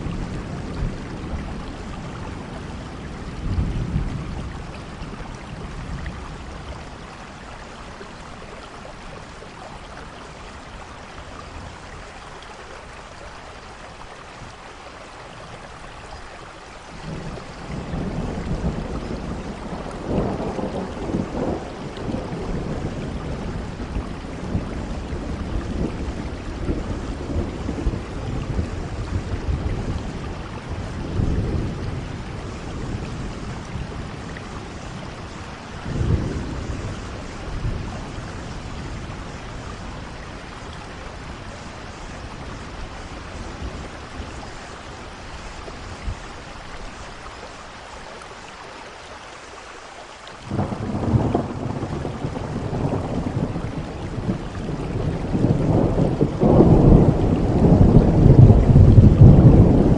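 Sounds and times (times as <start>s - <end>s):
low rumble of thunder: 0.0s - 48.2s, 50.4s - 59.9s
steady rain falling: 0.0s - 59.9s.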